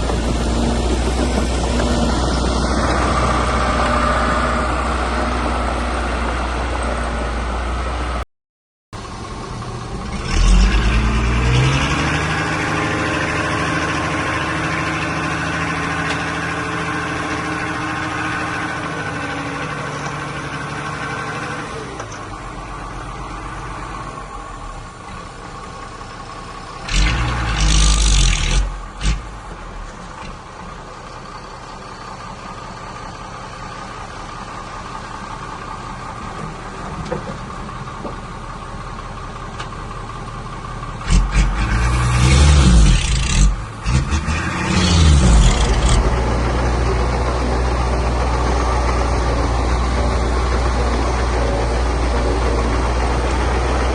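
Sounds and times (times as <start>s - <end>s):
heavy diesel engine running: 0.0s - 8.2s, 9.0s - 53.9s.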